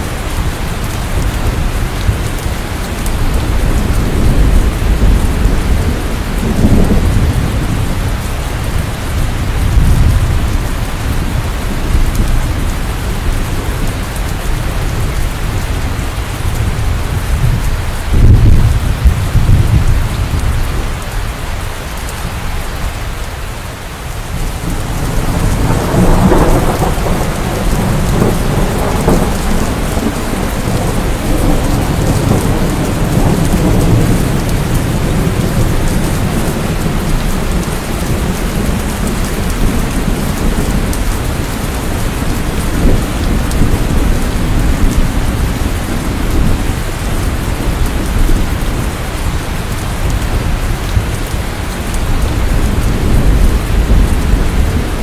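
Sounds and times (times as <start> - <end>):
thunder rumbling: 0.0 - 21.3, 21.9 - 55.0
heavy rainfall: 0.0 - 55.0.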